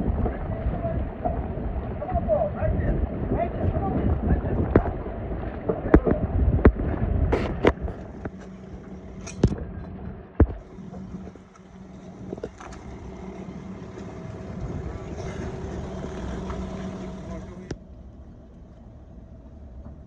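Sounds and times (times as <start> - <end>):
rumbling background: 0.0 - 20.0
steady engine hum: 0.0 - 20.0.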